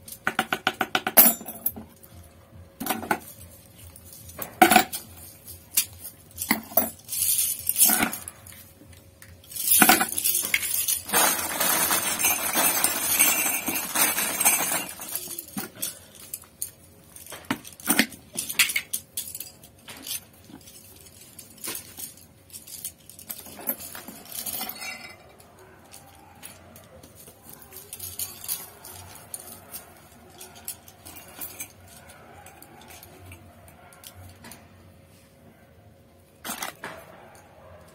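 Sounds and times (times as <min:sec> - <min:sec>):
metal tools clinking: 0:00.0 - 0:34.8, 0:36.4 - 0:37.9
rustling and scraping: 0:01.4 - 0:35.6.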